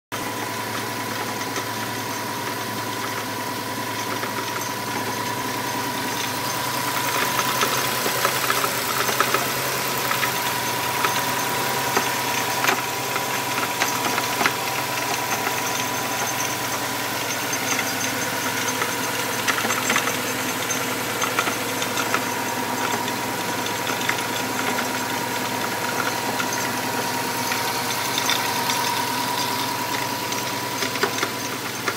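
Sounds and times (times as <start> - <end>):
car engine idling: 0.2 - 31.9
sharp engine ticks: 4.0 - 31.9
steady whine: 4.0 - 31.9.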